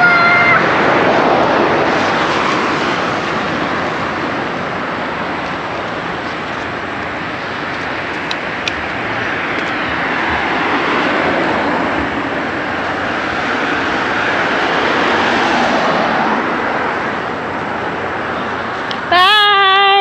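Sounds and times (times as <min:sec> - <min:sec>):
car driving by: 0:00.0 - 0:19.2.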